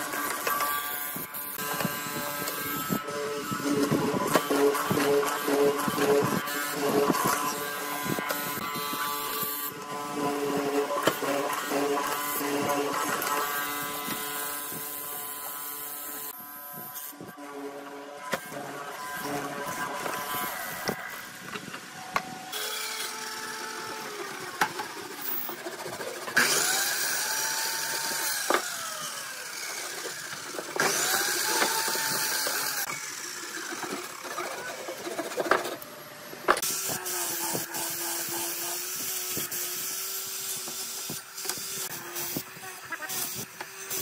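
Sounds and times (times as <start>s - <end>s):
angle grinder sanding wood: 0.0s - 44.0s
woodworking tools cutting wood: 0.0s - 44.0s.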